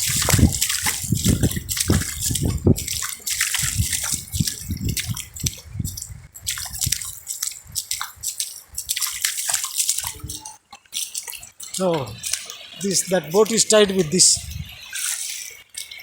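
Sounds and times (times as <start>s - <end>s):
shallow water splashing: 0.0s - 16.0s.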